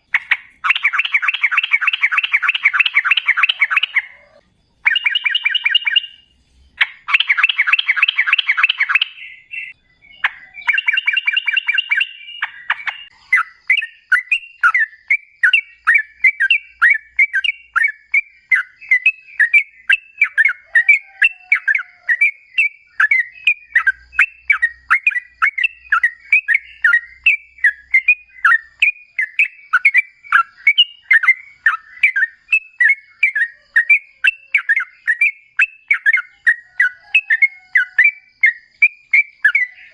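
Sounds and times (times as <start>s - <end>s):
bird singing bubbling notes: 0.0s - 39.9s.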